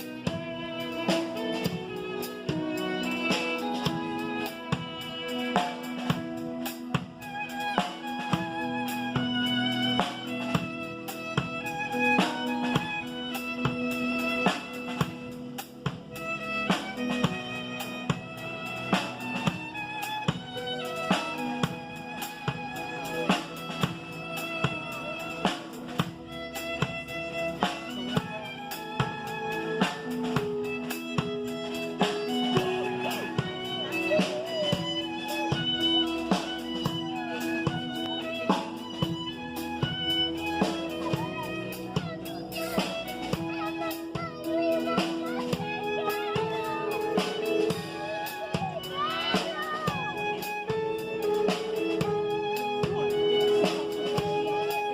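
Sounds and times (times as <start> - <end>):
drum kit beat: 0.0 - 54.9
violin melody: 0.0 - 54.9.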